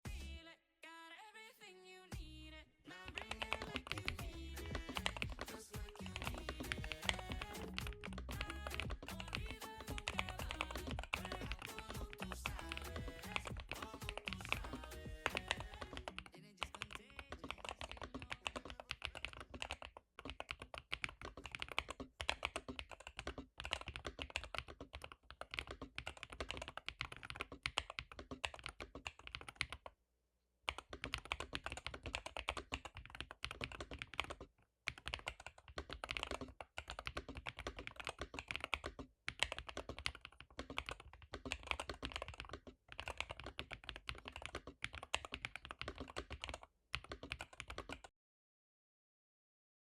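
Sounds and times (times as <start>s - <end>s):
fast keyboard typing: 3.1s - 29.9s, 30.7s - 48.1s.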